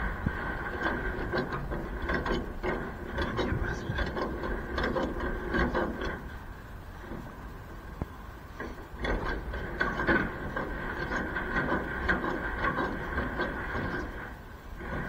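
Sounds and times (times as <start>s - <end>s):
clicks and knocks of crank: 0.6s - 15.0s.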